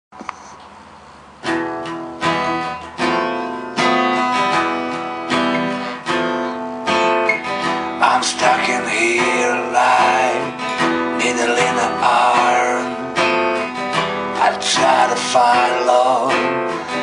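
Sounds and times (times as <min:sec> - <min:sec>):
acoustic guitar strumming chords: 0:00.8 - 0:17.0.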